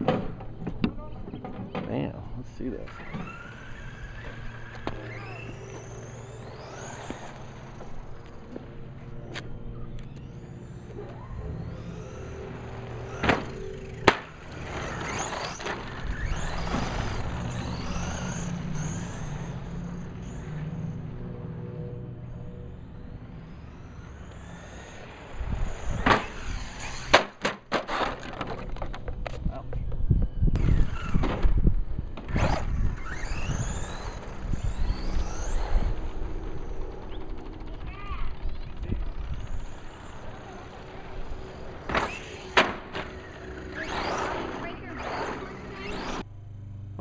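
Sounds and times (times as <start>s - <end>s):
tires rumbling on ground: 0.0s - 47.0s
rc truck motor whine: 2.4s - 47.0s.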